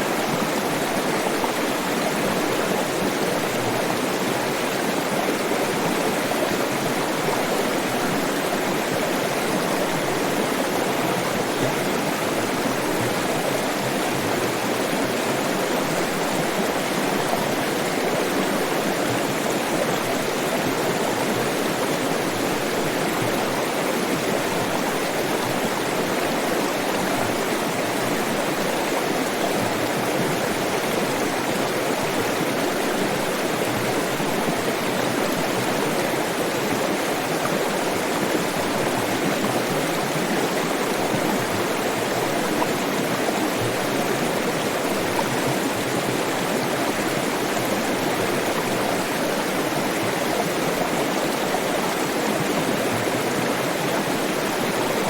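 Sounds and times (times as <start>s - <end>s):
water flowing over rocks: 0.0s - 55.0s.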